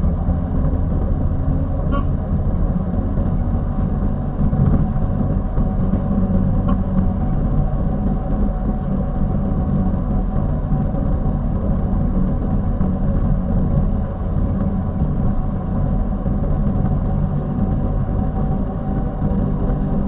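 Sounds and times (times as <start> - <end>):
heavy vehicle engine drone: 0.0 - 20.0
road noise: 0.0 - 20.0.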